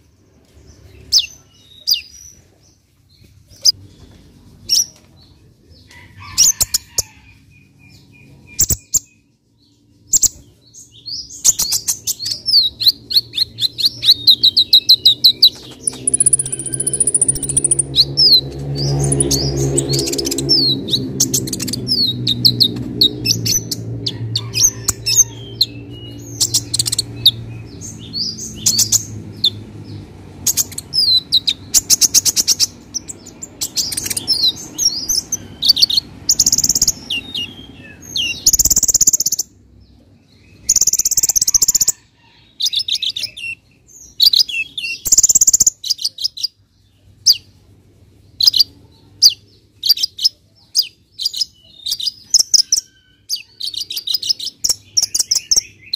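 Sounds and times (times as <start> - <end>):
bird singing high chirps: 0.6 - 5.4, 6.5 - 39.6, 40.2 - 42.0, 42.6 - 47.5, 48.3 - 55.9.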